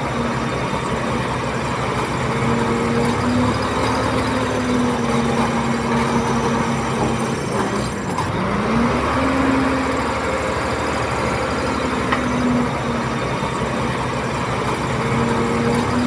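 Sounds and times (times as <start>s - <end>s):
bulldozer diesel engine under load: 0.0s - 16.0s.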